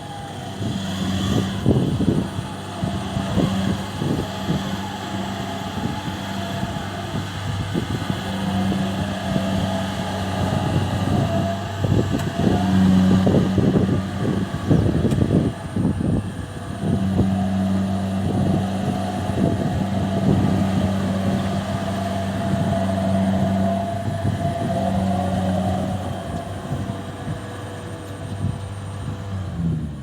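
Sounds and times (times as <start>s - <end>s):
harvesting machine engine running: 0.0s - 30.0s.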